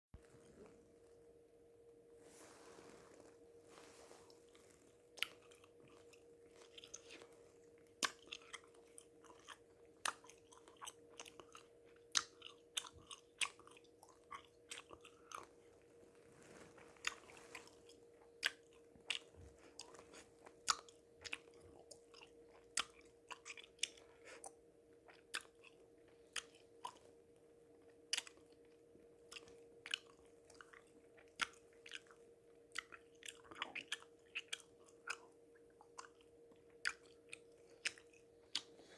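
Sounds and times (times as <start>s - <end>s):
faint steady hum: 0.2s - 38.9s
person chewing gum: 3.8s - 38.9s.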